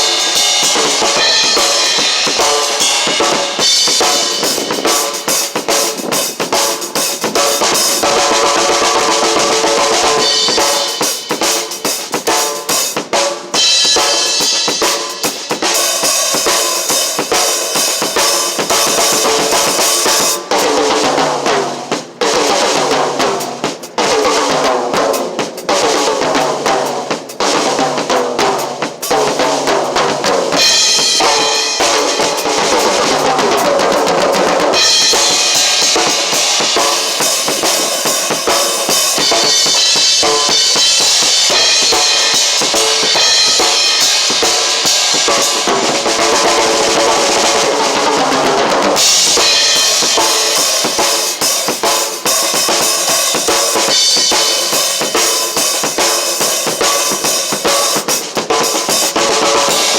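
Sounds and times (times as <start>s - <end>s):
drum kit playing: 0.0s - 59.9s.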